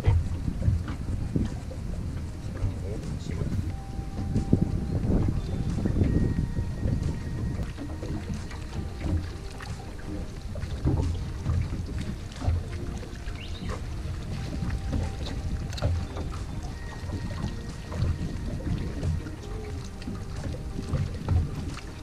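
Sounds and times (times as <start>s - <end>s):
waves slapping boat hull: 0.0s - 22.0s
wind noise on microphone: 0.0s - 22.0s.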